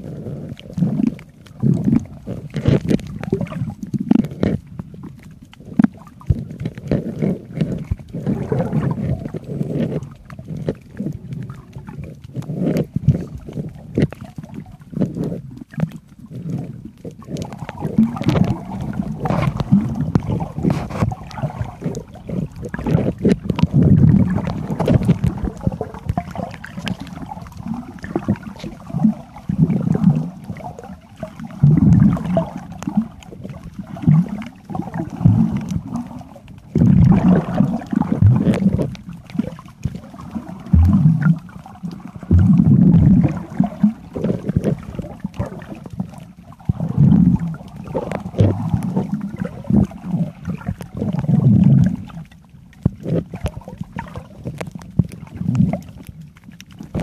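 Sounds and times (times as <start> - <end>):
muffled underwater rumbling: 0.0 - 57.0.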